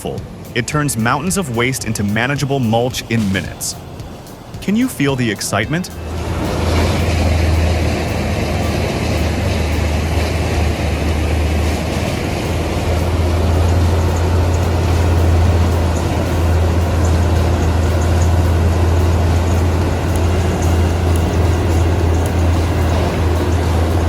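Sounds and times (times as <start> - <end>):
industrial wood grinder running: 1.0 - 24.0.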